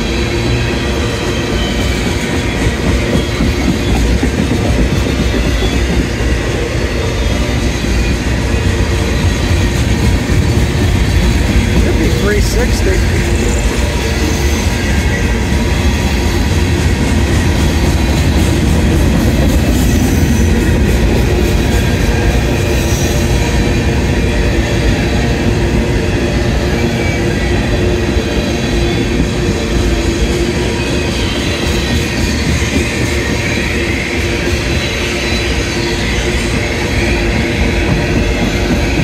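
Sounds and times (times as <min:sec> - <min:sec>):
faint high wheel squeals: 0:00.0 - 0:39.0
freight cars rumbling on rails: 0:00.0 - 0:39.0.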